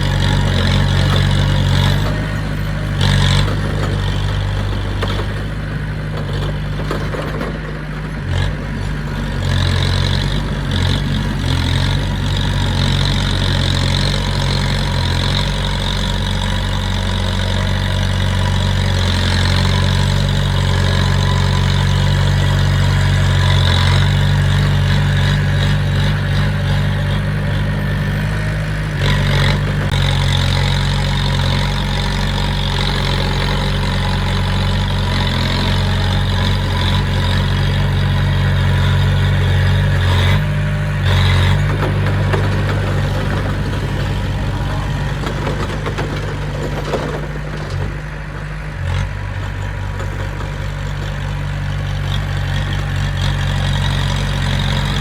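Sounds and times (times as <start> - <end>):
heavy machine diesel engine running: 0.0 - 55.0.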